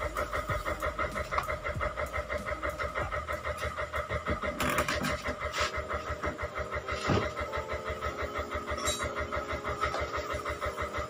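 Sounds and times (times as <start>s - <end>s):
washing machine motor humming: 0.0s - 11.0s.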